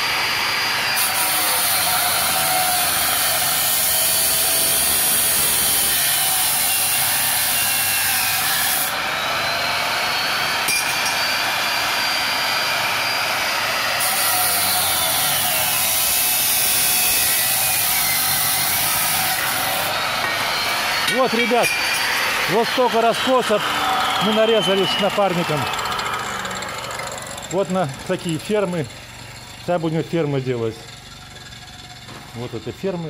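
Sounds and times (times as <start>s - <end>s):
angle grinder cutting steel: 0.0s - 33.0s.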